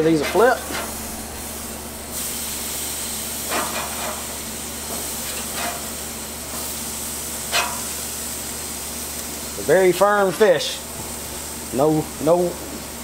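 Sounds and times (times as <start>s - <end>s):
fish sizzling on grill: 0.0s - 13.0s.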